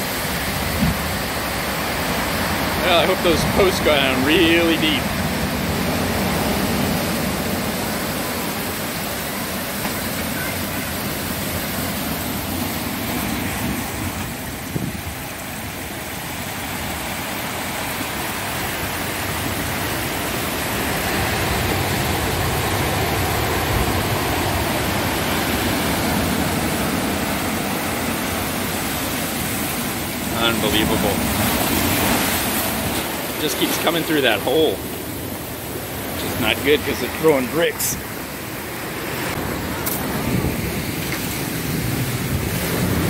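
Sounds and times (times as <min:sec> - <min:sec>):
surf breaking against a sea wall: 0:00.0 - 0:43.0
water rushing and pouring: 0:00.0 - 0:43.0.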